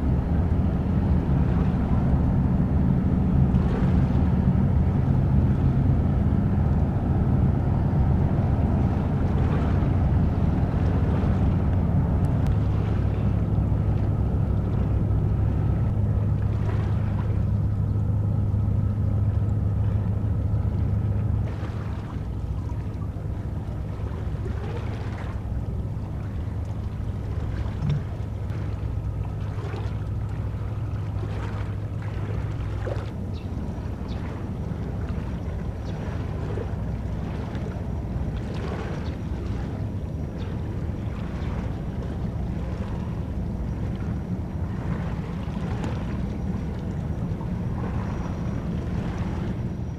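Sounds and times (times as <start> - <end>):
ship engines droning: 0.0 - 49.9
water noise: 0.0 - 49.9
wind: 0.0 - 49.9.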